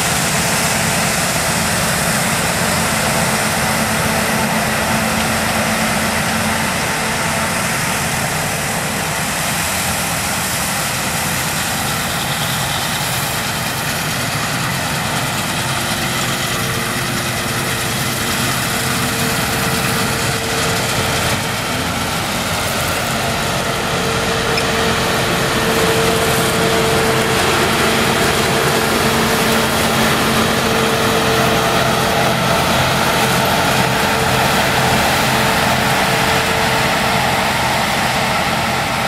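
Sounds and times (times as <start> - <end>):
combine harvester running: 0.0 - 39.0
steady machine whine: 0.0 - 39.0.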